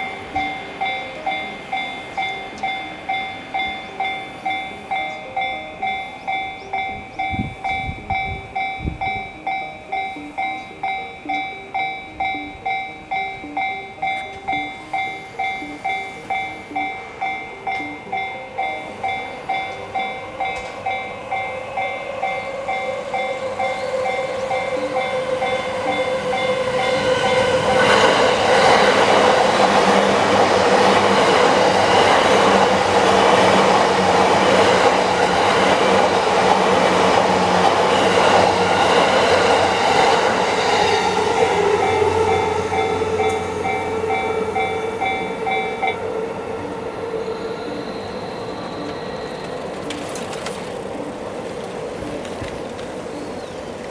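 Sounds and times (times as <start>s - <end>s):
electric train passing: 0.0s - 53.9s
level-crossing warning bell: 0.0s - 53.9s.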